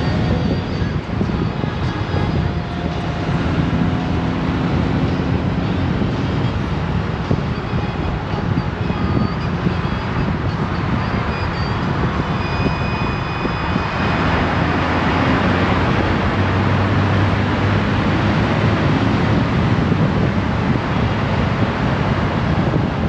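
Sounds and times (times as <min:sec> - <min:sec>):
motorcycle engine humming: 0:00.0 - 0:23.0
wind and road noise: 0:00.0 - 0:23.0.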